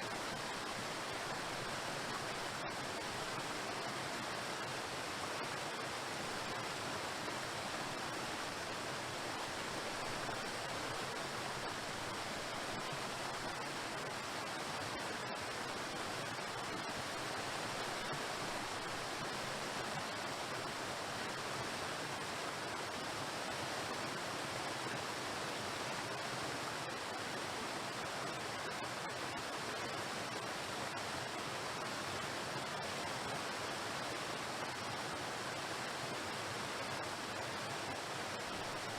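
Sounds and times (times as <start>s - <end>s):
waterfall crashing on rocks: 0.0s - 38.9s.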